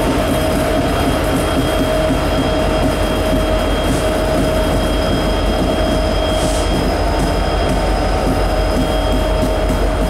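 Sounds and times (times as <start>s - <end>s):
diesel locomotive engine rumble: 0.0s - 10.0s
high-pitched whine: 0.0s - 10.0s.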